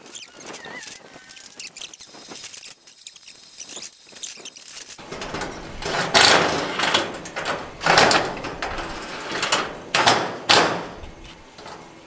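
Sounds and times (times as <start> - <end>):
steel parts scraping and rattling: 0.0 - 12.0.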